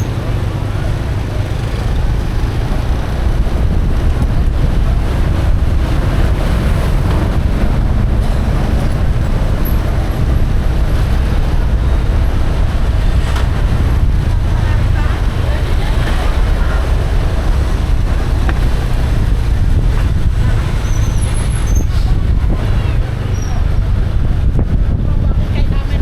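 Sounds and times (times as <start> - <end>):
motorcycle engine rumble: 0.0 - 26.0
road noise: 0.0 - 26.0
wind buffeting microphone: 0.0 - 26.0.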